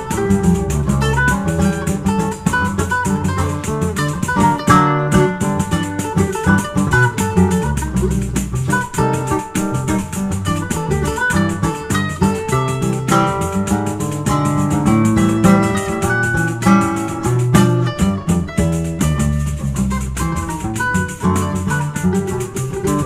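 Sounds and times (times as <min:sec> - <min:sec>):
acoustic guitar bass lines: 0:00.0 - 0:23.0
mandolin plucked melody: 0:00.0 - 0:23.0
tambourine jingling beat: 0:00.0 - 0:23.0.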